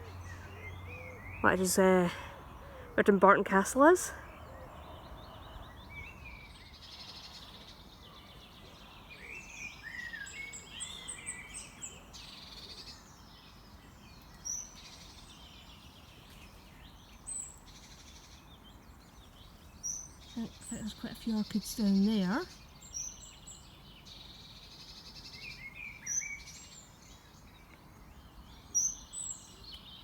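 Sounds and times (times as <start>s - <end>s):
faint outdoor background: 0.0s - 30.0s
songbirds singing and chirping: 0.0s - 30.0s.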